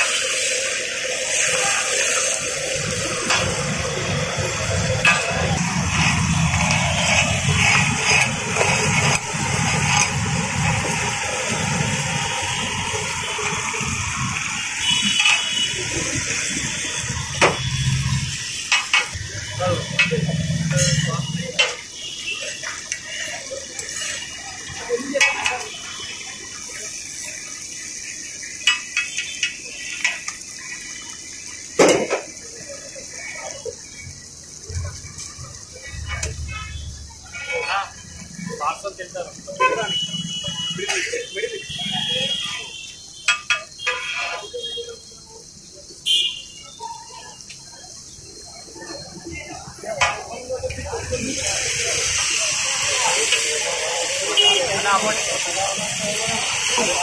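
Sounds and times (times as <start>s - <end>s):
fish sizzling on a griddle: 0.0s - 57.0s.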